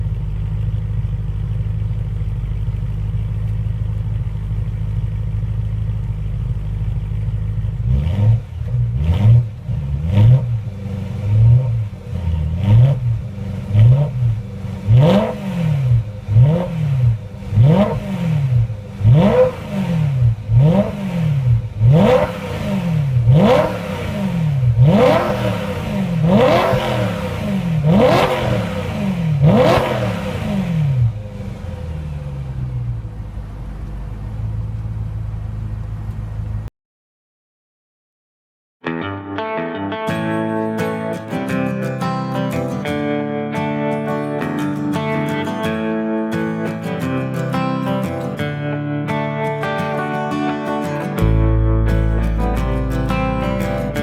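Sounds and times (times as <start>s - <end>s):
car engine idling and revving: 0.0s - 36.7s, 40.9s - 54.0s.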